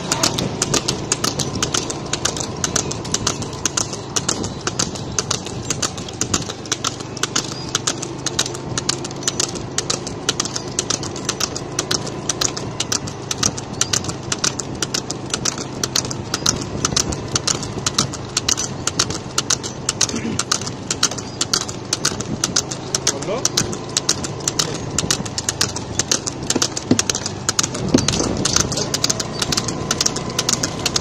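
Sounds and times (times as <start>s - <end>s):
vehicle engine running: 0.0s - 31.0s
fast sharp clicks: 0.1s - 31.0s.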